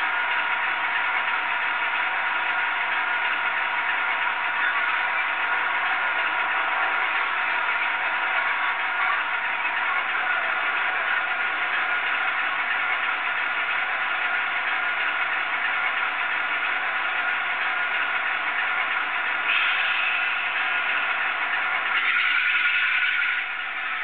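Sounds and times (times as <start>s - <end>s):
model locomotive diesel engine: 0.0s - 24.0s.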